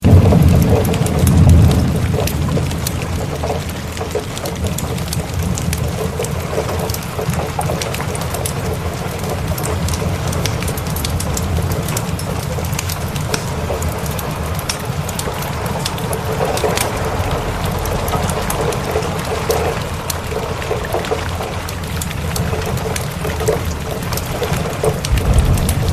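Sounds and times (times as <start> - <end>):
steady rain: 0.0 - 25.9
thunder rumble: 0.0 - 25.9
wood fire crackling: 0.0 - 25.9.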